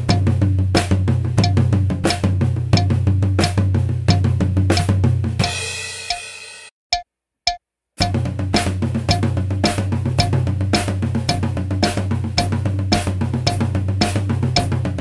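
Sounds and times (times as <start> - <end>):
drum kit groove: 0.0 - 6.7, 7.5 - 15.0.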